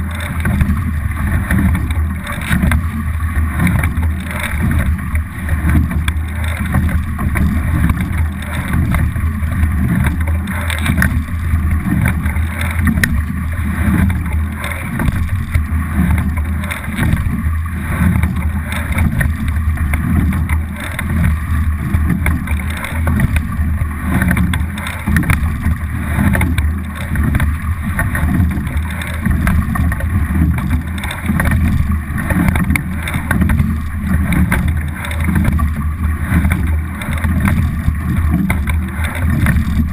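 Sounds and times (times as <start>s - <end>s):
water rushing along a boat hull: 0.0s - 39.9s.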